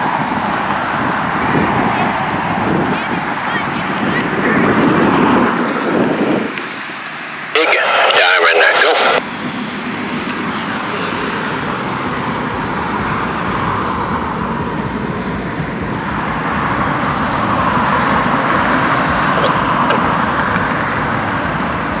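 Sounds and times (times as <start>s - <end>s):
distant jet engines rushing: 0.0s - 22.0s.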